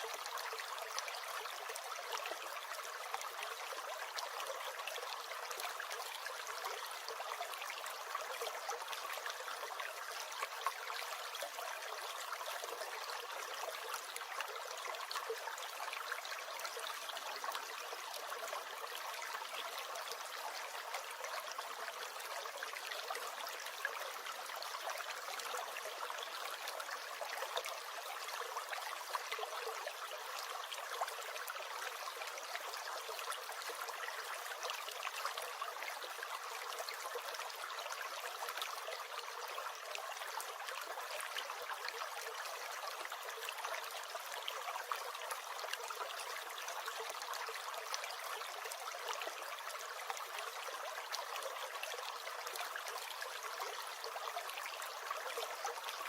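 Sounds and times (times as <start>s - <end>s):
brook gurgling: 0.0s - 56.0s.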